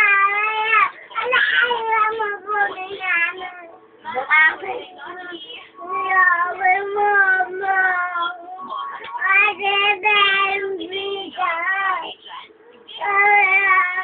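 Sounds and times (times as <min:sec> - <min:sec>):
child singing: 0:00.0 - 0:12.1, 0:12.9 - 0:14.0.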